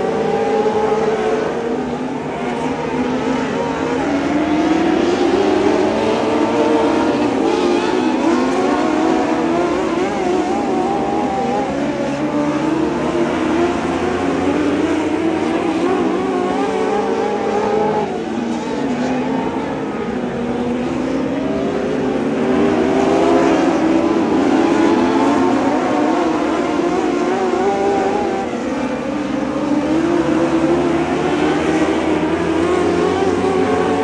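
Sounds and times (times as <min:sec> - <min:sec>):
race car engines: 0:00.0 - 0:34.0.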